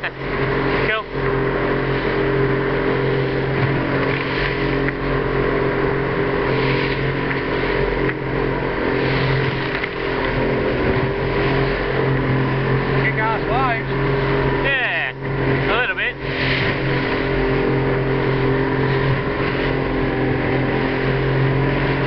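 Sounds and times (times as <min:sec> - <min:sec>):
boat engine running: 0:00.0 - 0:22.0
water rushing along hull: 0:00.0 - 0:22.0.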